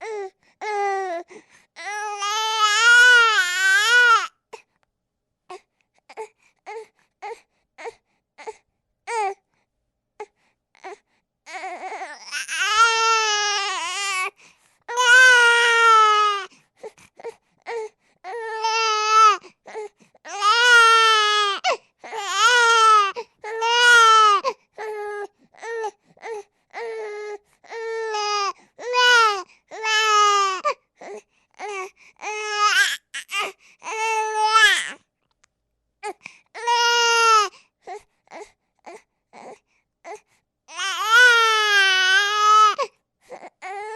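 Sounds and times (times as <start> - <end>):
baby crying: 0.0 - 4.3, 10.8 - 16.5, 17.2 - 35.0, 36.0 - 43.9.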